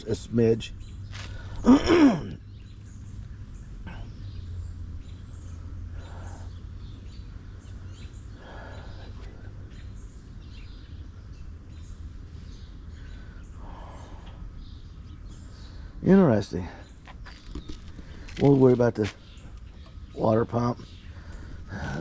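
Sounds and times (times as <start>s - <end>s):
faint bird chirps: 0.0s - 22.0s
low background hum: 0.0s - 22.0s.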